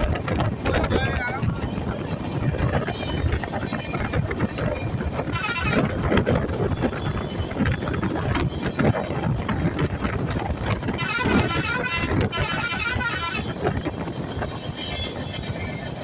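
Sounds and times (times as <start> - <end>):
knocks and rattles: 0.0 - 15.6
vehicle rumbling: 0.0 - 16.0.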